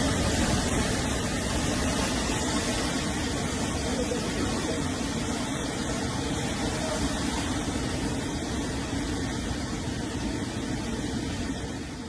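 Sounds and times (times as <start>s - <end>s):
roaring wind: 0.0s - 12.0s
surging water: 0.0s - 12.0s.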